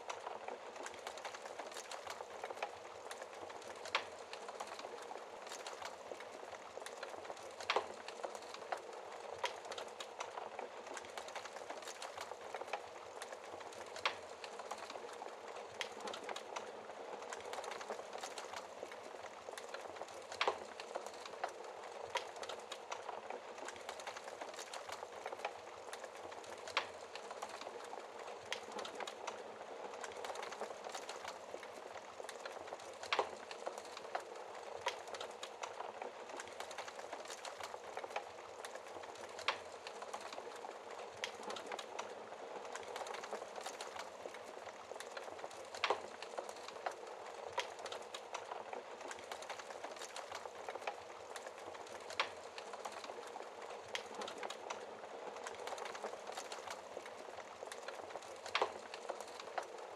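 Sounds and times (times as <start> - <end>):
fire crackling in a fireplace: 0.0 - 59.9
loud fire snaps: 0.0 - 59.9.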